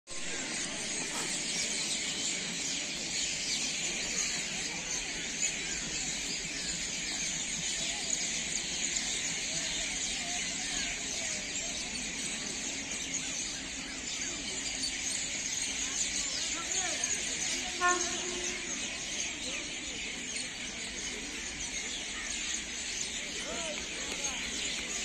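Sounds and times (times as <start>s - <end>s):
faint chatter of passengers: 0.1s - 25.0s.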